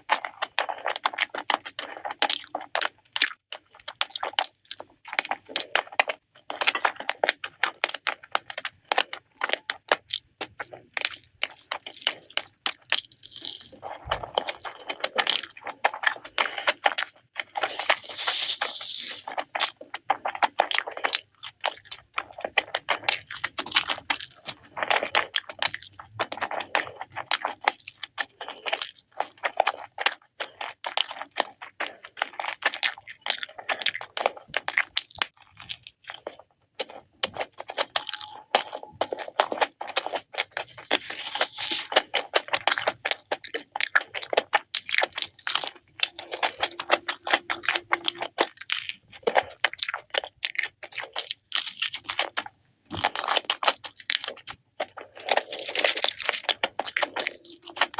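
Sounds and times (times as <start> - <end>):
chewing crispy fried chicken: 0.0 - 57.9.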